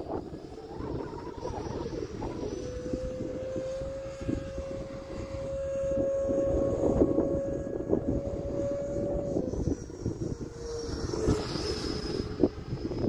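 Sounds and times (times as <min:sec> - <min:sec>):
model jet whine flying past: 0:00.0 - 0:13.0
wind rumbling on microphone: 0:00.0 - 0:13.0.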